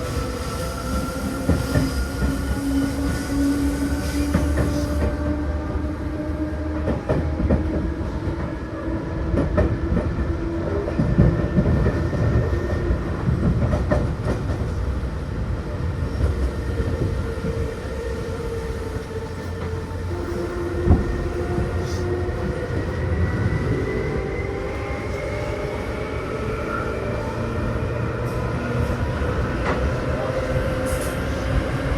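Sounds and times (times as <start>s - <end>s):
electric train rumbling: 0.0s - 31.9s.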